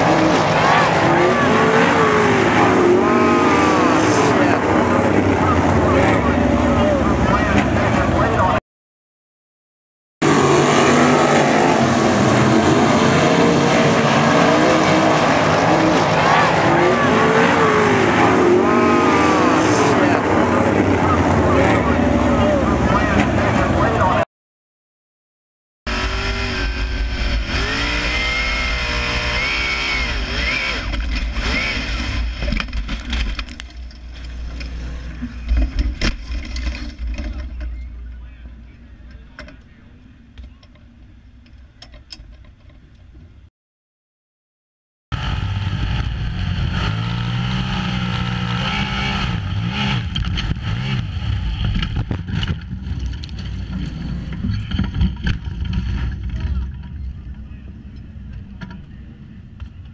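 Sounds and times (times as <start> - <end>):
sprint car engines revving: 0.0 - 8.6, 10.2 - 24.3, 25.9 - 42.0, 45.1 - 59.9.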